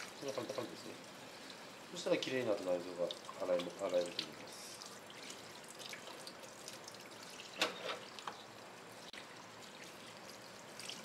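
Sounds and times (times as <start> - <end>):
water splashes: 0.0 - 11.0.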